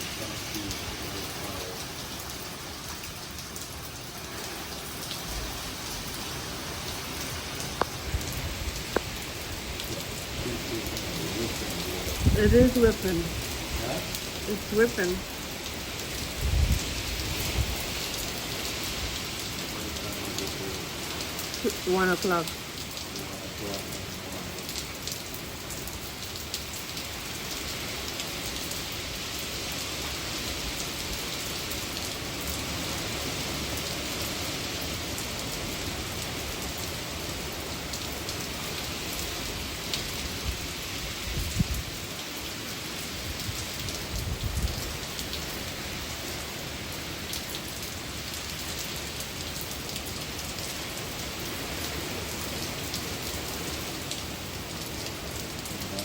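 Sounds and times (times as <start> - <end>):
heavy rain in strong wind: 0.0 - 56.0.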